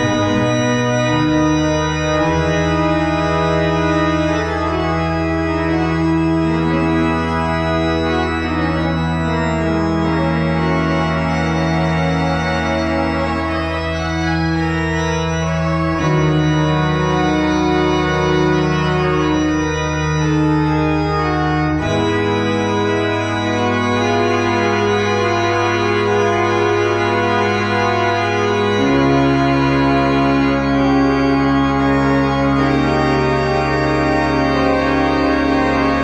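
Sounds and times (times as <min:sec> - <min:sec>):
church organ chords: 0:00.0 - 0:36.0.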